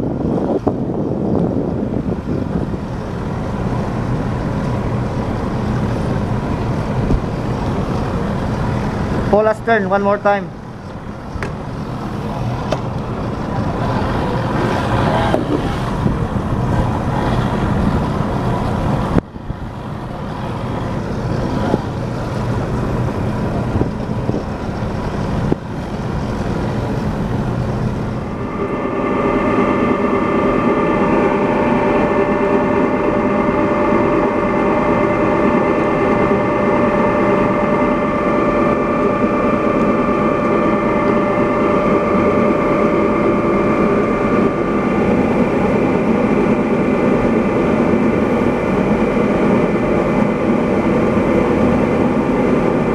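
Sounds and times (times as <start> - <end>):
heavy ship machinery rumble: 0.0 - 52.9
whining motor drone: 0.0 - 52.9.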